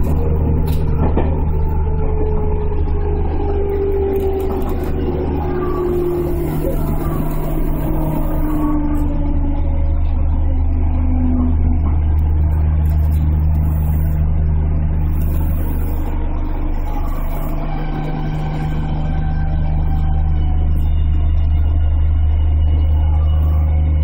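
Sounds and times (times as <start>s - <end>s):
train motors humming and rumbling: 0.0s - 24.0s.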